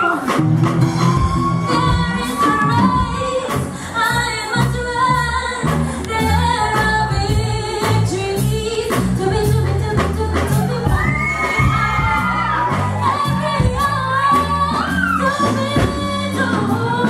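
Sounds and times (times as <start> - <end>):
bass: 0.0 - 17.0
drums with steady beat: 0.0 - 17.0.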